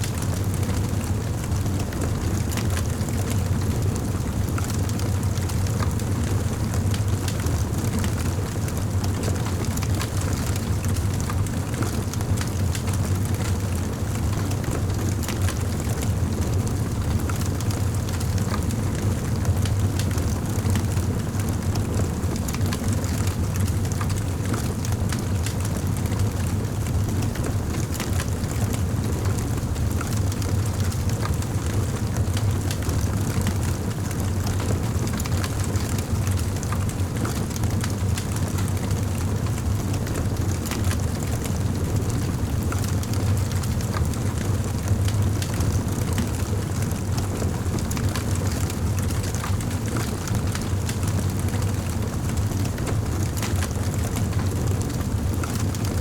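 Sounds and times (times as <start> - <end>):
fire crackling and popping: 0.3 - 19.0, 19.6 - 55.8.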